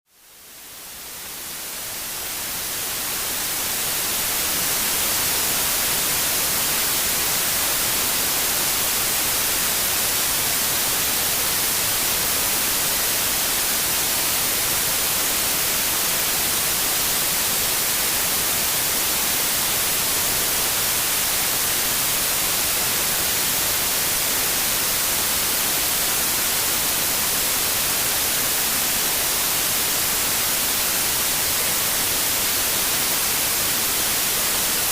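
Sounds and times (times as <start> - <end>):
white noise hiss: 0.1 - 34.9.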